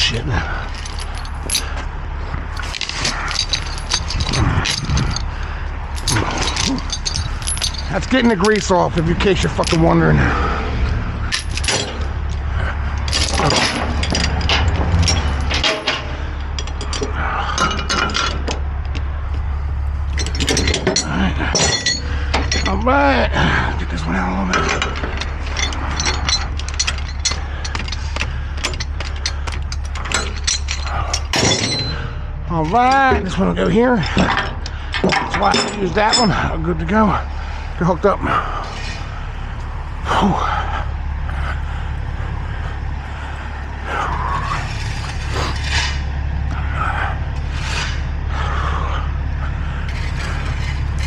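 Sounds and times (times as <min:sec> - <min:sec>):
chain links clinking and rattling: 0:00.0 - 0:48.2, 0:49.9 - 0:51.0
low engine hum: 0:00.0 - 0:51.0.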